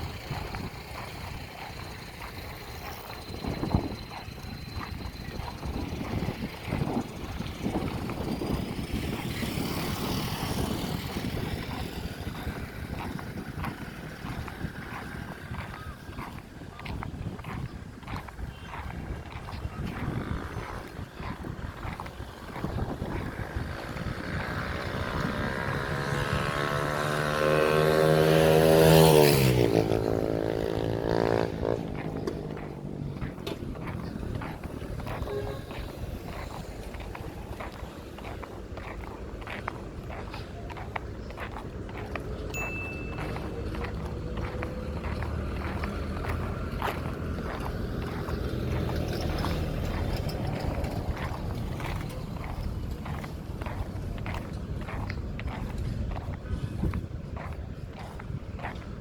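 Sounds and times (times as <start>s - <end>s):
motor vehicle passing by: 0.0s - 59.0s
traffic rumble: 0.0s - 59.0s.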